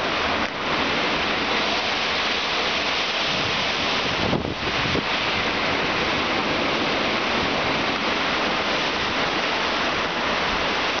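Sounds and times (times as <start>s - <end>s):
strong wind through trees: 0.0s - 11.0s.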